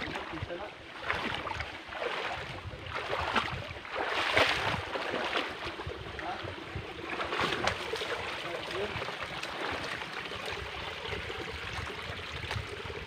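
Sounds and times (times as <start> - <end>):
steady rushing water: 0.0 - 13.0.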